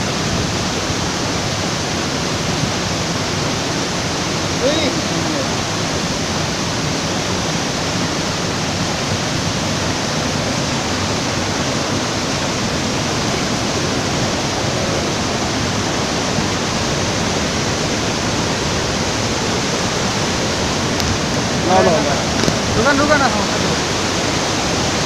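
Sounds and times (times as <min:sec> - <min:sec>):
waterfall rushing over boulders: 0:00.0 - 0:25.0.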